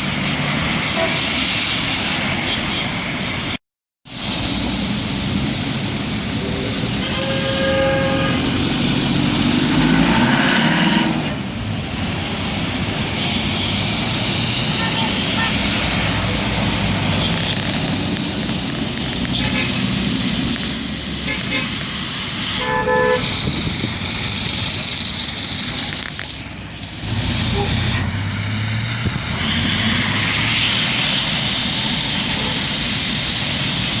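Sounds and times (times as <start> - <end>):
heavy rain: 0.0 - 34.0
vehicle passing on wet road: 0.0 - 34.0
wind: 0.0 - 34.0.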